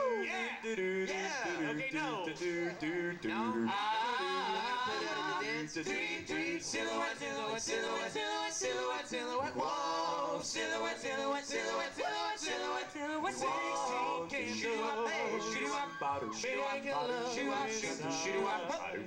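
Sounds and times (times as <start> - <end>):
male vocal quartet singing doo-wop: 0.0 - 19.0.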